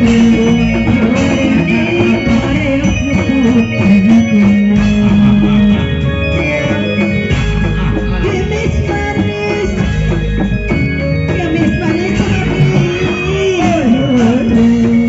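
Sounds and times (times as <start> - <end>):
band melody over drums: 0.0 - 15.0.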